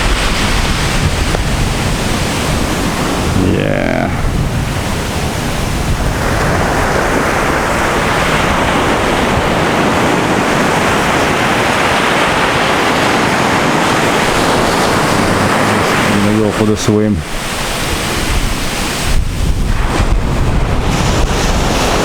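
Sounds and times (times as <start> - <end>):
surf washing up on beach: 0.0 - 22.0
wind rumbling on microphone: 0.0 - 22.0.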